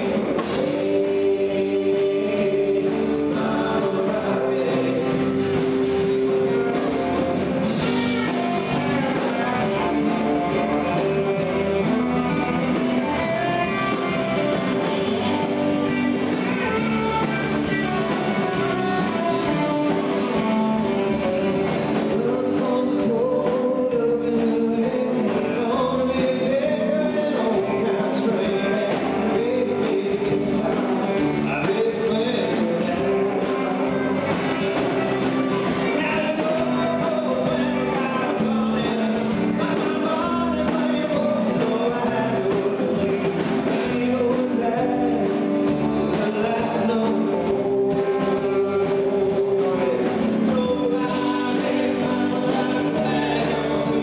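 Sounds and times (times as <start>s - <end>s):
country-rock band with guitar: 0.0s - 54.0s
lead singer: 0.0s - 54.0s.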